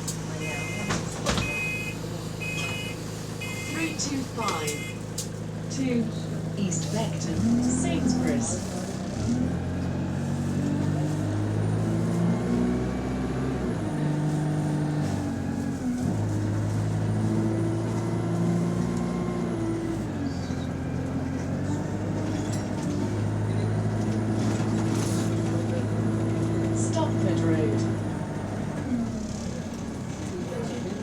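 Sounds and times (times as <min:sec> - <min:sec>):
bus diesel engine changing gear: 0:00.0 - 0:31.0.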